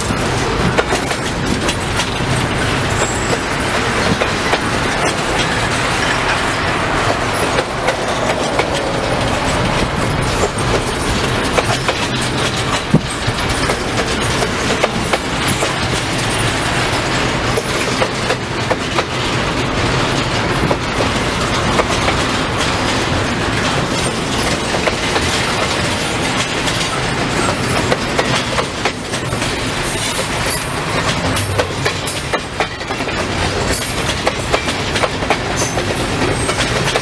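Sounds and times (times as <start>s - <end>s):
freight train rumbling past: 0.0s - 37.0s
wheels clacking over rail joints: 0.0s - 37.0s.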